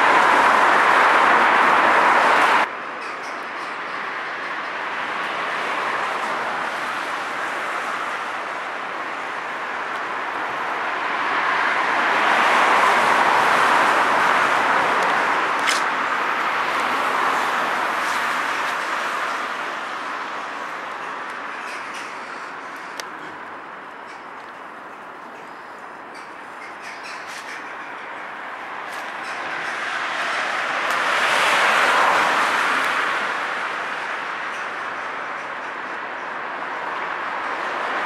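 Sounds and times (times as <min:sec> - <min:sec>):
tyre hiss of passing traffic: 0:00.0 - 0:38.0.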